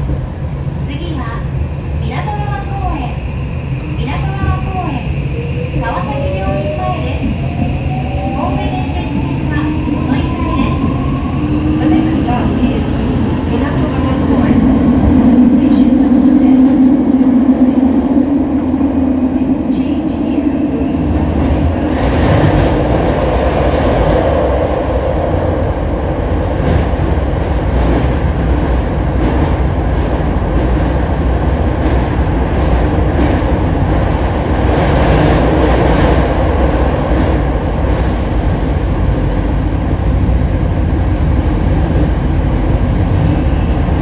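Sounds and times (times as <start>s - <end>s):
train wheels and motors rumbling: 0.0s - 44.0s.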